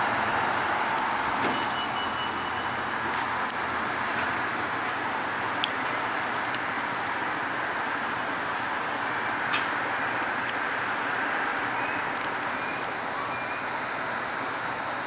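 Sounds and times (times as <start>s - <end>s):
city traffic: 0.0s - 15.0s.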